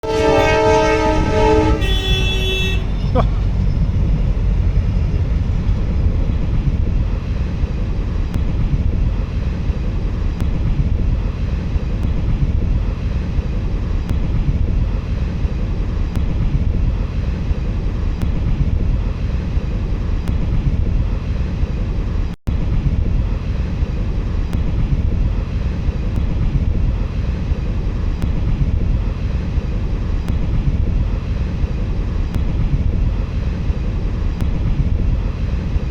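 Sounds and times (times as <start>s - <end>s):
moving train rumble: 0.0s - 35.9s.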